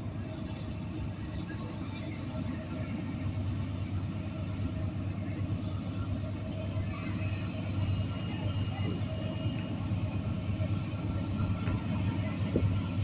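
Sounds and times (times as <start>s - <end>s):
freight train rumbling by: 0.0s - 13.0s.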